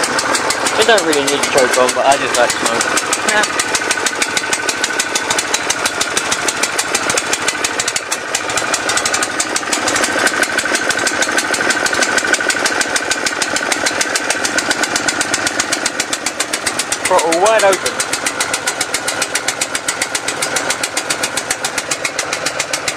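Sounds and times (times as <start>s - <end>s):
small engine running with pulsing beat: 0.0s - 22.9s.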